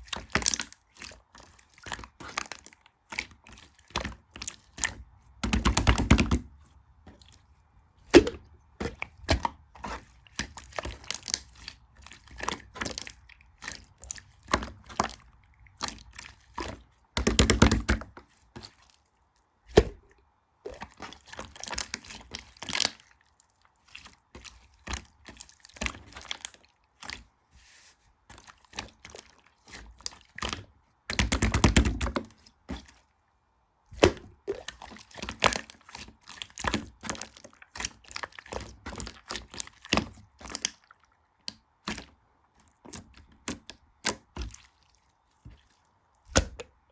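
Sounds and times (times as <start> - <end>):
slime squelching: 0.0 - 33.1, 33.9 - 46.9.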